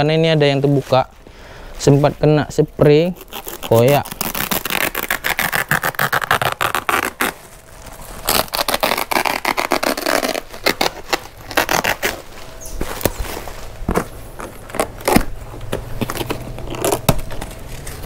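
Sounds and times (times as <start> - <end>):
plastic sack rustling and scraping: 0.0 - 18.0.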